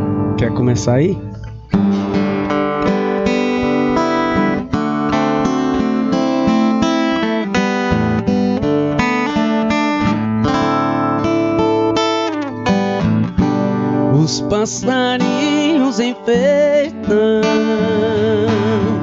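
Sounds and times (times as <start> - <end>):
acoustic guitar picking: 0.0 - 19.0.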